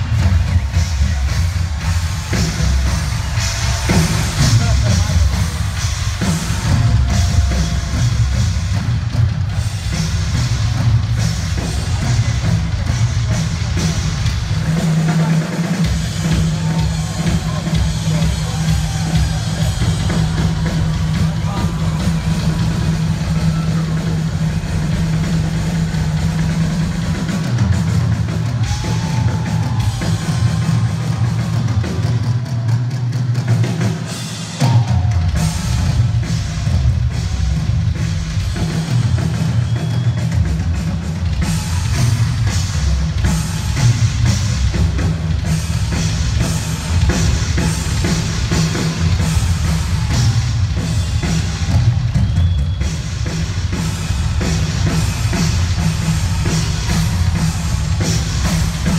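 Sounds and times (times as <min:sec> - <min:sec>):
rock drum solo: 0:00.0 - 0:58.9.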